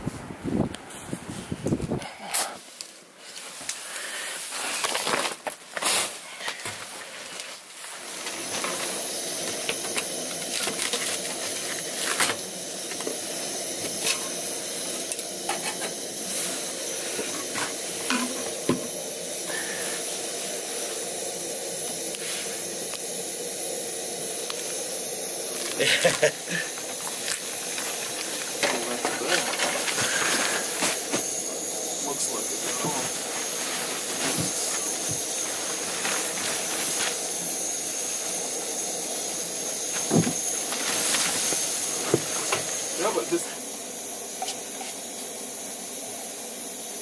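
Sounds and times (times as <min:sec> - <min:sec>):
camp stove burner hissing: 0:00.0 - 0:47.0.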